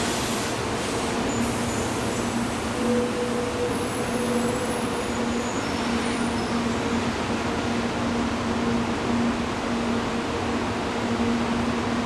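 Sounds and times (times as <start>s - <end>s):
train rolling past: 0.0s - 12.0s.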